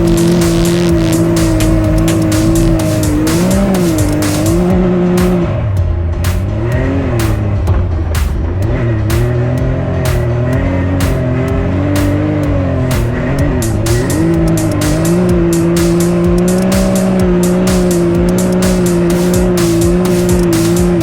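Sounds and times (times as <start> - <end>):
beat-driven music: 0.0 - 21.0
engine revving: 0.0 - 21.0.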